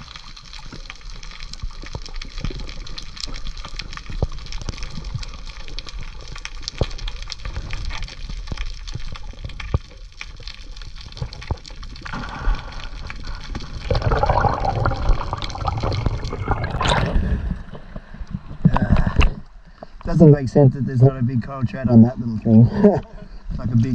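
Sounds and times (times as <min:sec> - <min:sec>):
water bubbling gush: 0:00.0 - 0:19.3
water clicks and crackles: 0:00.0 - 0:20.2, 0:21.5 - 0:23.9
low water rumble: 0:00.0 - 0:23.9.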